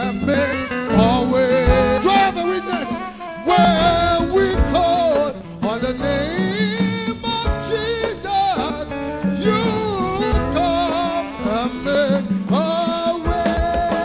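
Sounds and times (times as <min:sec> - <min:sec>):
amplified instrumental backing: 0:00.0 - 0:14.0
man singing into microphone: 0:00.0 - 0:14.0
drum hits: 0:00.9 - 0:14.0.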